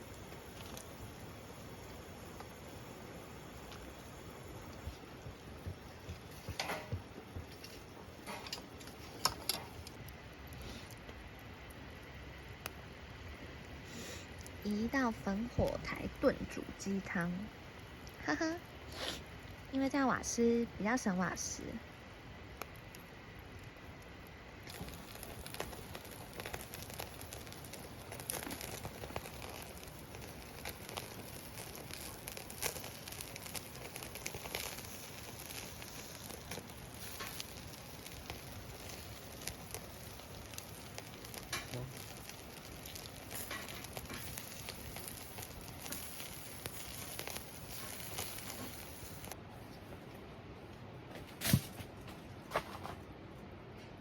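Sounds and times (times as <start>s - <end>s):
campfire crackling: 0.0s - 49.4s
fire pops: 0.0s - 49.4s, 51.2s - 52.9s.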